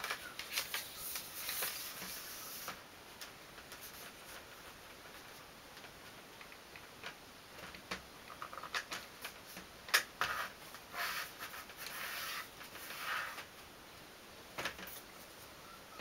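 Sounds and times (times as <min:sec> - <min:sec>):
rustling: 0:00.0 - 0:13.5.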